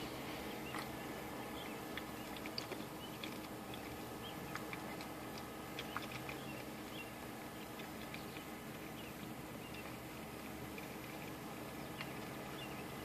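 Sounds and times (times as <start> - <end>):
quiet background hum: 0.0 - 13.0.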